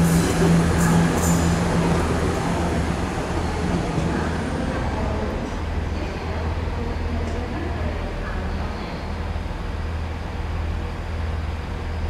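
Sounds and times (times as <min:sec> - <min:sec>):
diesel train engine drone: 0:00.0 - 0:12.0.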